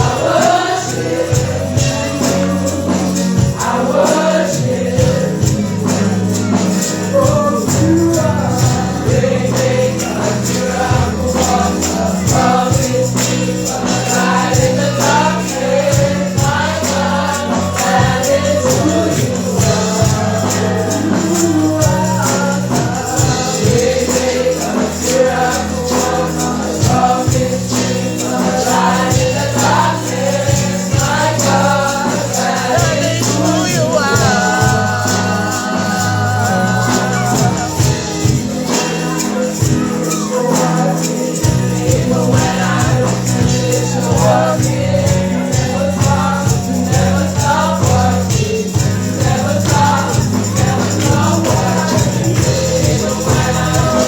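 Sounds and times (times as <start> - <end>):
choir singing with band: 0.0 - 54.0
tambourine shaking: 0.0 - 54.0.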